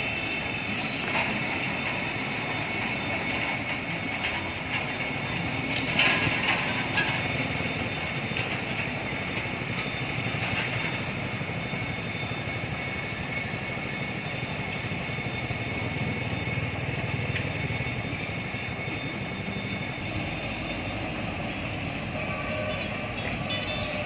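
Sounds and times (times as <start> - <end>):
high electronic warning tone: 0.0 - 24.0.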